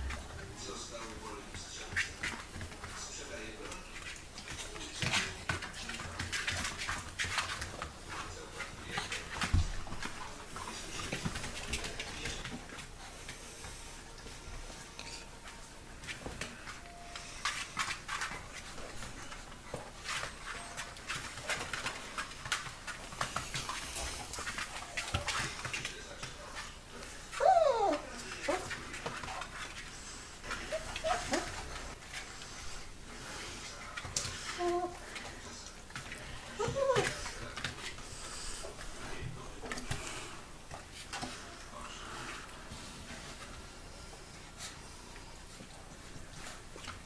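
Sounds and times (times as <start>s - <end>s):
puppy claws scratching on floor: 0.1s - 14.5s, 15.1s - 26.8s, 27.8s - 47.0s.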